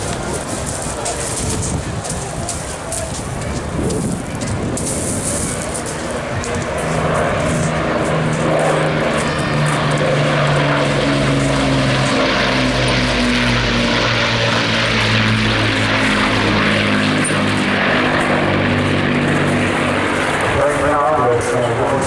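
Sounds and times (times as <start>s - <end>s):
propeller aircraft engines droning: 0.0s - 22.0s.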